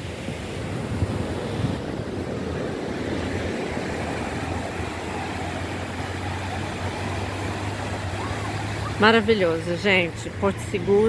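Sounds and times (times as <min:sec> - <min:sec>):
surf on the beach: 0:00.0 - 0:11.0
wind rumble on microphone: 0:00.0 - 0:11.0.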